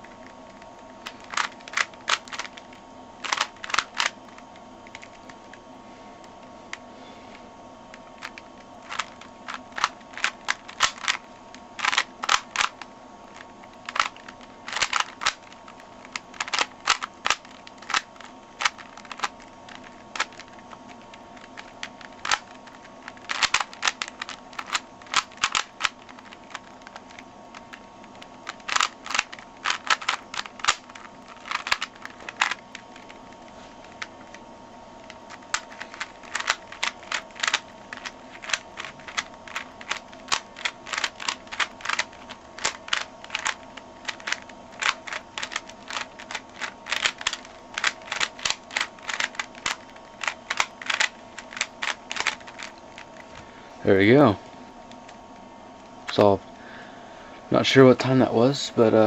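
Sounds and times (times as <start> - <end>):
puzzle cube plastic clicks: 0.1 - 5.6, 7.9 - 34.4, 35.0 - 53.3.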